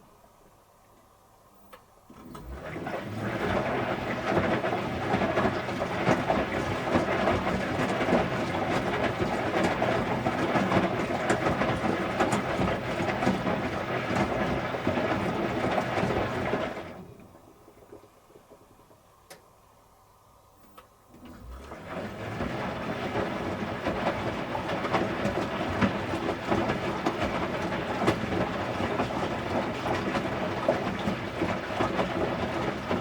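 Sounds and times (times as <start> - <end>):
washing machine running: 2.1 - 18.6, 21.1 - 33.0.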